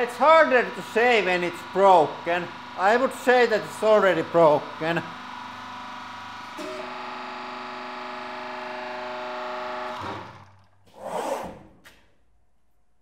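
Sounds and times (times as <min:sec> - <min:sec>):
hydraulic pump humming: 0:00.0 - 0:11.9.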